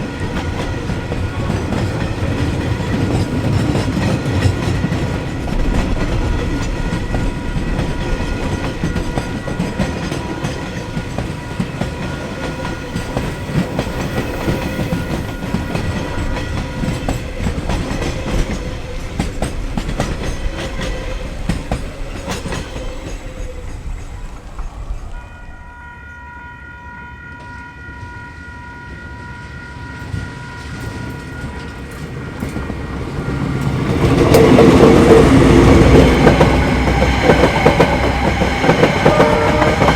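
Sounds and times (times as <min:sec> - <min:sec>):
freight train wheels clattering: 0:00.0 - 0:25.2, 0:30.0 - 0:39.9.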